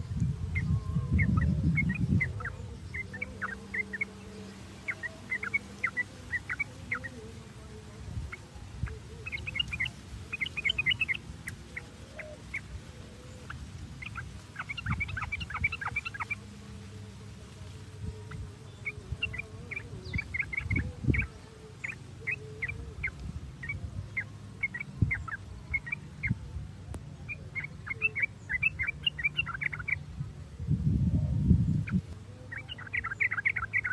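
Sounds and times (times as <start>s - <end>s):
bird chattering: 1.2s - 7.2s, 8.3s - 16.5s, 18.2s - 26.4s, 27.2s - 30.0s, 31.8s - 33.9s.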